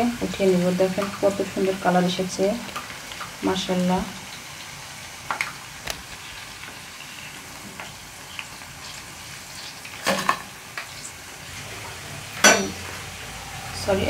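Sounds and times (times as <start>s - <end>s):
oil sizzling in a pan: 0.0s - 14.0s.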